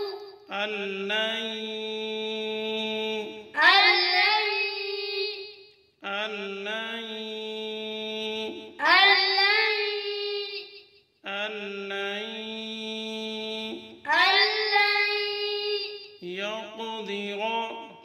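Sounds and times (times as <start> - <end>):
person reciting melodically: 0.0 - 18.0.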